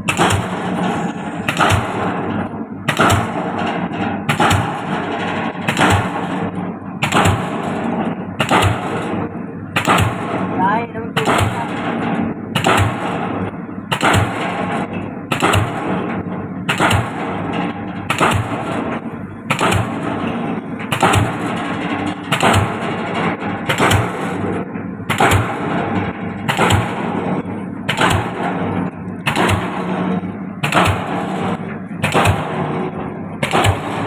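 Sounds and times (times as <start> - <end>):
pile hammer blows: 0.0 - 34.0
steady machine hum: 0.0 - 34.0.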